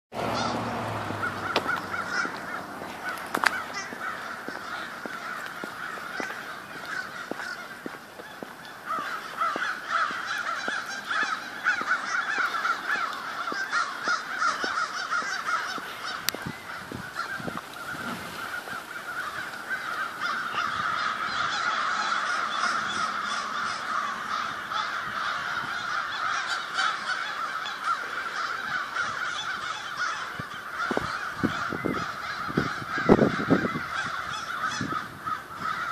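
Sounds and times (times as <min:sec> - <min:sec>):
crows cawing: 0:00.2 - 0:35.9.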